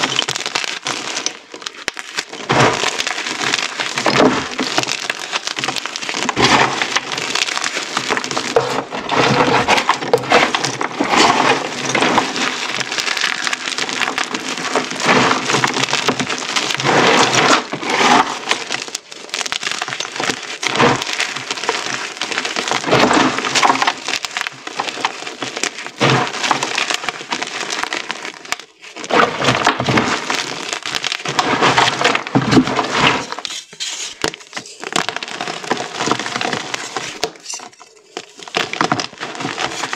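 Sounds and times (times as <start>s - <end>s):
hands crushing chalk chunks: 0.0s - 39.9s.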